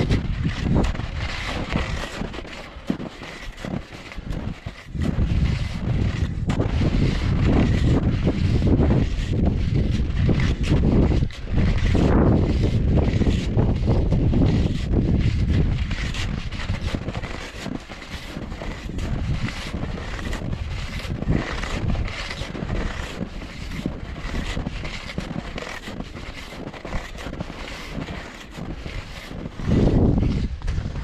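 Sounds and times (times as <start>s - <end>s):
skis swishing and crunching on snow: 0.0s - 31.0s
wind rumble on microphone: 0.0s - 31.0s.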